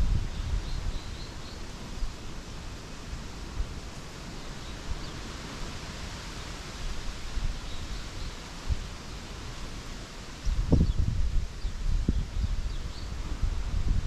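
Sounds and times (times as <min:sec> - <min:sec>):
leaves rustling in wind: 0:00.0 - 0:14.0.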